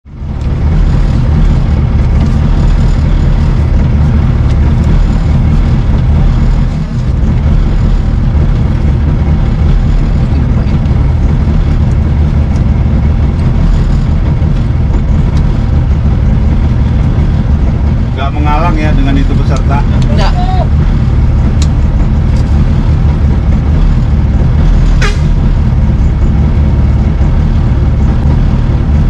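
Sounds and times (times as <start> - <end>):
rally car engine running: 0.0 - 29.0.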